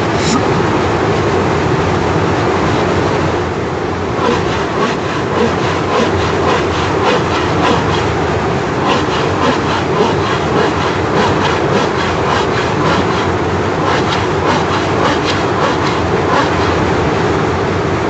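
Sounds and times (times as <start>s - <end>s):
steady rumbling noise: 0.0s - 18.0s.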